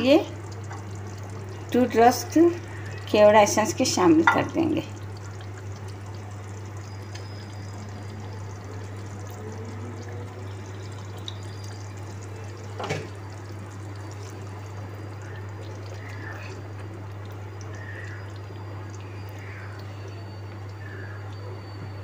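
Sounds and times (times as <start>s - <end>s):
gravy simmering in a pan: 0.0s - 22.0s.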